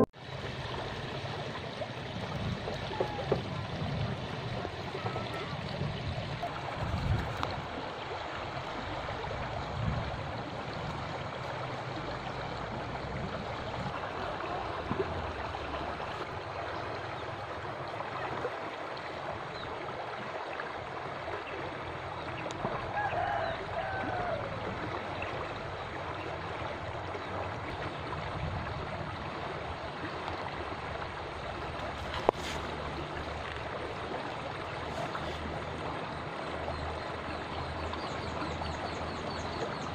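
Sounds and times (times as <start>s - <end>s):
river water running over stones: 0.0s - 39.9s.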